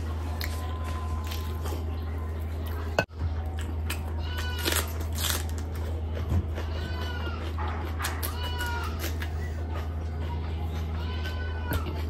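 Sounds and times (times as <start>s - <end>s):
close chewing and mouth smacks: 0.1s - 12.0s.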